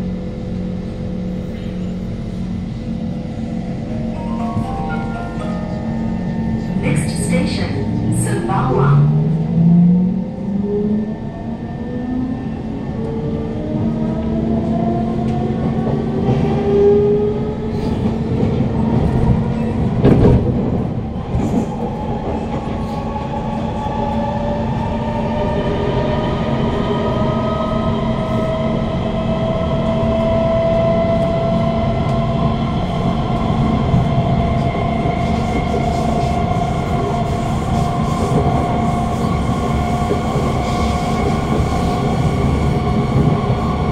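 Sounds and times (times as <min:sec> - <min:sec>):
wheels rumbling on rail: 0:00.0 - 0:43.9.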